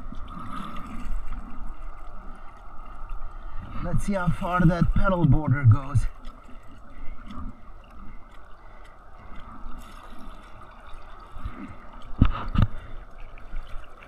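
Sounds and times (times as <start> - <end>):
water drips and splashes: 0.0 - 14.0
water lapping against kayak hull: 0.0 - 14.0.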